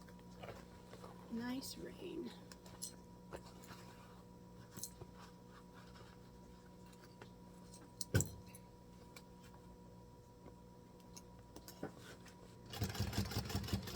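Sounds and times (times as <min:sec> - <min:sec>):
steady electrical hum: 0:00.0 - 0:13.9.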